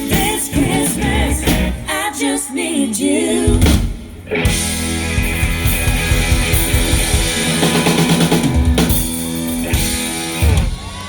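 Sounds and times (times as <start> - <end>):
rapid drum strokes: 0.0 - 1.8, 3.5 - 10.9
live band playing pop song: 0.0 - 11.0.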